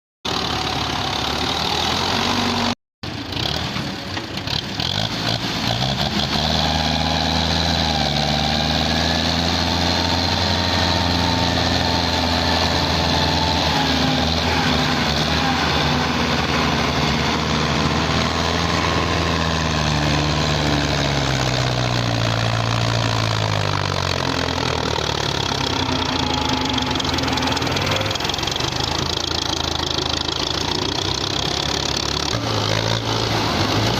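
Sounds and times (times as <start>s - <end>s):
tractor engine under heavy load: 0.3s - 33.9s.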